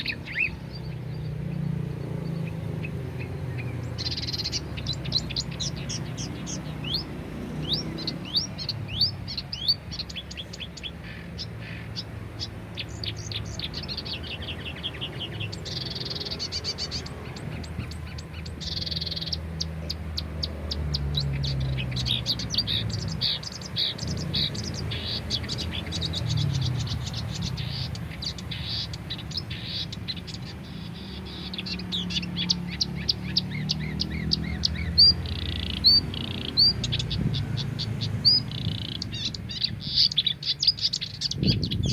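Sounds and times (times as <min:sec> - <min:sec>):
songbirds chirping and singing: 0:00.0 - 0:41.9.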